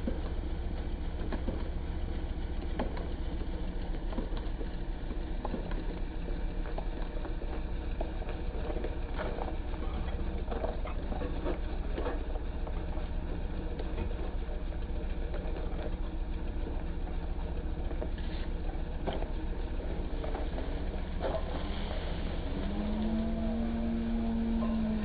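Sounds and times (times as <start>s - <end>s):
small pump engine idling: 0.0s - 25.0s.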